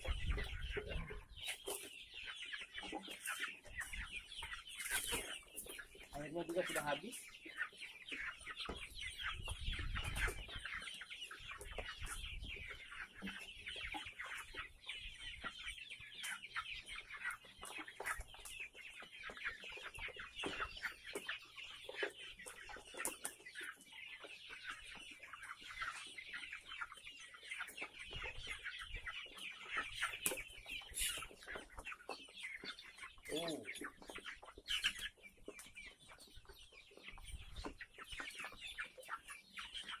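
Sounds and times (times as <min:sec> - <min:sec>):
chicks clucking and peeping: 0:00.0 - 0:40.0.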